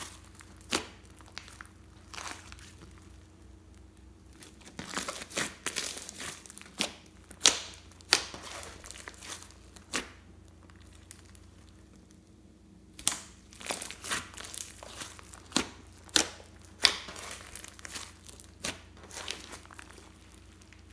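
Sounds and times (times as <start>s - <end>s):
slime popping: 0.0s - 12.0s, 12.9s - 20.9s
slime crackling: 0.0s - 20.9s.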